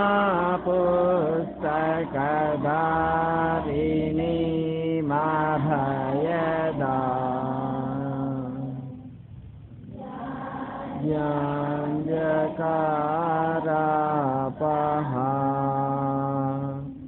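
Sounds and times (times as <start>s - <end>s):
group chanting a prayer: 0.0s - 9.2s, 9.8s - 17.0s.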